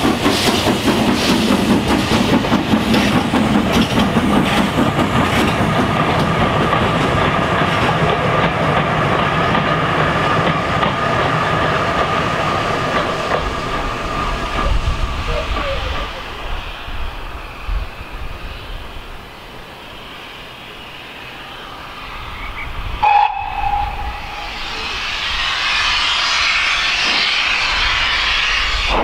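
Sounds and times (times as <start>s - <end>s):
steam locomotive exhaust beats: 0.0s - 29.0s.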